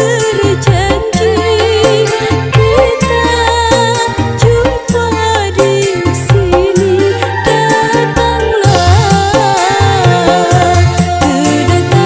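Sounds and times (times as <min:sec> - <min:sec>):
wavering melody over bass and drums: 0:00.0 - 0:12.0.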